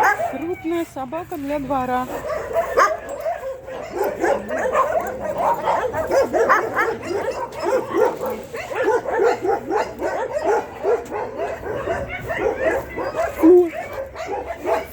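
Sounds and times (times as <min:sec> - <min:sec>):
dog barking and yipping: 0:00.0 - 0:14.9.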